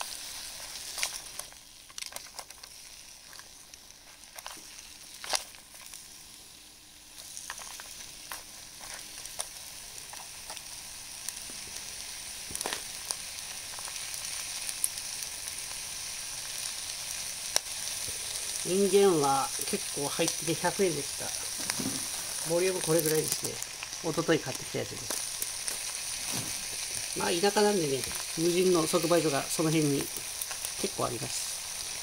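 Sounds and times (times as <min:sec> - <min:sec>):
vegetables sizzling in a tray: 0:00.0 - 0:32.0.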